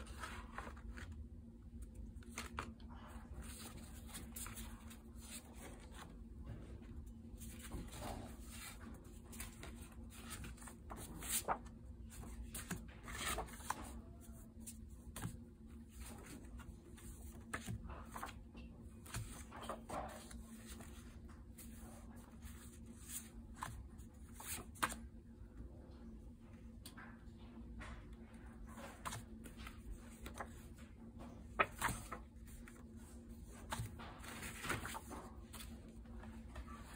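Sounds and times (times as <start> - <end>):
paper notecards rustling: 0.0 - 6.3, 7.3 - 25.1, 28.7 - 36.9.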